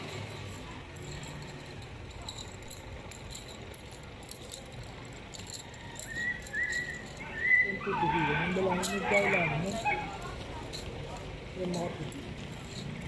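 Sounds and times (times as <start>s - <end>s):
light clicks and rattles: 0.0s - 7.4s, 8.5s - 13.0s
low street din: 0.0s - 13.0s.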